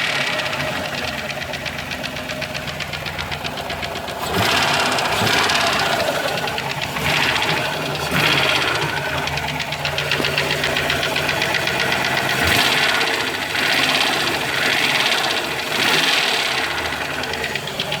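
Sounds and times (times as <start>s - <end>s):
engine running with ticking: 0.0s - 18.0s.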